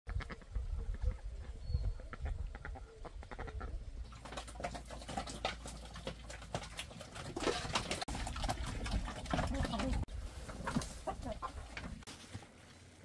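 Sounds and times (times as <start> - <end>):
farm animals calling: 0.1 - 12.0.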